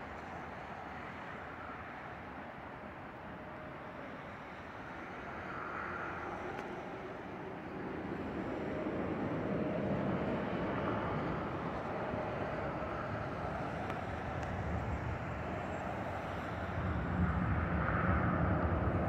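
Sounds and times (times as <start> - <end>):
airliner engines rumbling overhead: 0.0 - 19.0.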